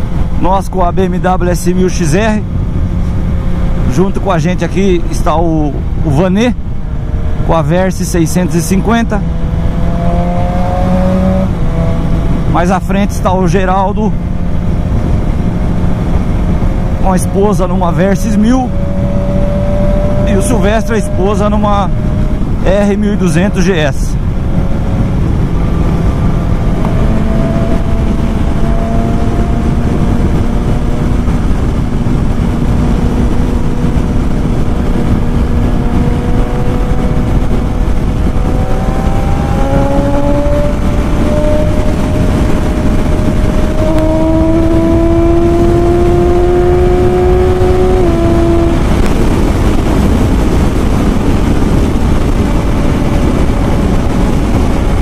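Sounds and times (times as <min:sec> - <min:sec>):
motorcycle engine: 0:00.0 - 0:55.0
wind rushing on microphone: 0:00.0 - 0:55.0.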